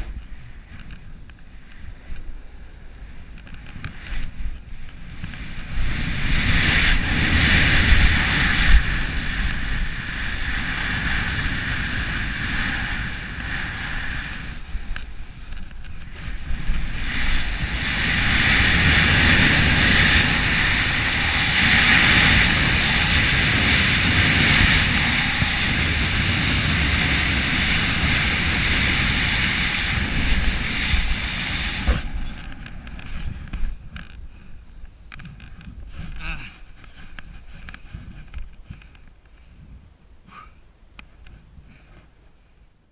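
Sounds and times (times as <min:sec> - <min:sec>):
snowboard carving through snow: 0:00.0 - 0:38.8
wind buffeting microphone: 0:00.0 - 0:40.2.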